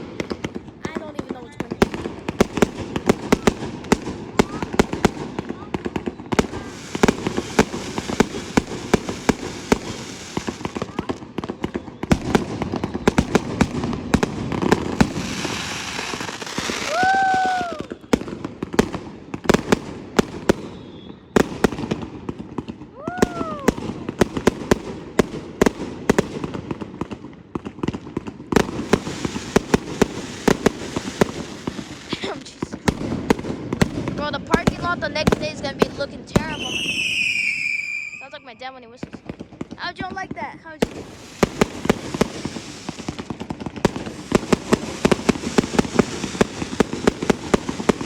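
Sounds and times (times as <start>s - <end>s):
fireworks bangs: 0.0s - 48.0s
fireworks crackle: 0.0s - 48.0s.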